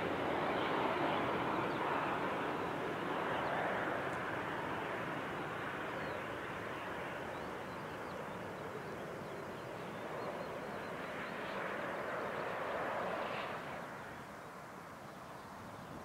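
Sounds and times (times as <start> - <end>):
jet engine roar: 0.0 - 14.4.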